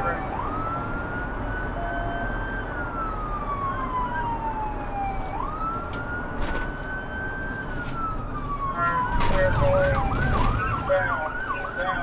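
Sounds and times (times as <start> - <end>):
police siren wailing: 0.0 - 12.0
road noise of moving car: 0.0 - 12.0.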